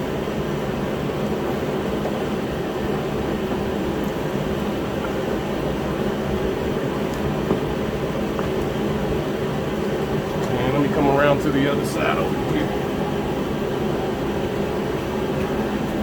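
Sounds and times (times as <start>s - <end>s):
heater running with low hum: 0.0s - 16.0s.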